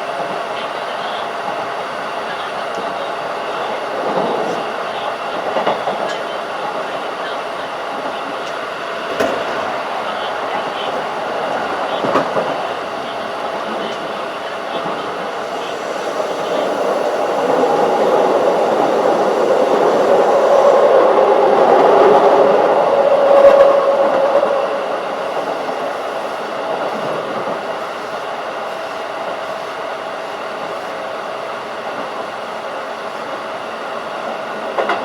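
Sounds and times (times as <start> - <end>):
electric train running at speed: 0.0 - 35.0.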